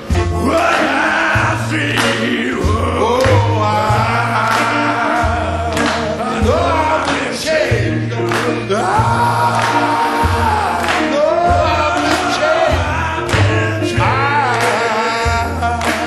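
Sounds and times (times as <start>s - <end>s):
bass and steady beat: 0.0s - 16.0s
man singing: 0.0s - 16.0s.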